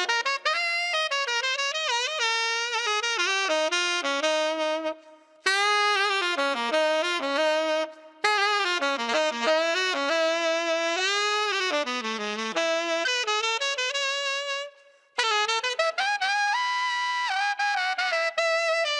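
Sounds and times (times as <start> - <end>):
tenor saxophone jazz line: 0.0 - 18.9.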